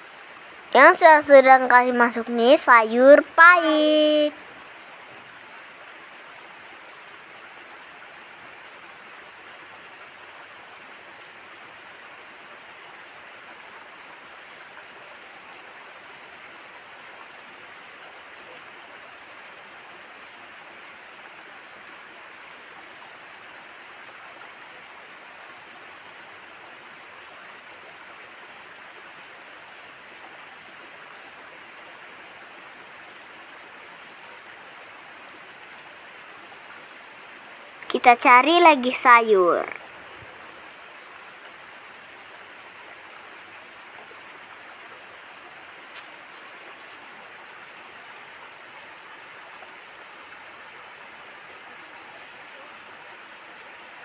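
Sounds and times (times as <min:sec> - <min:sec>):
outdoor ambience hiss: 0:00.0 - 0:54.0.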